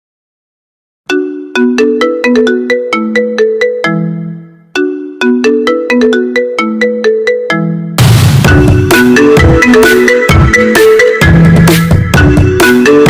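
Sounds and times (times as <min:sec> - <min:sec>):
phone ringtone melody: 0:01.1 - 0:13.0.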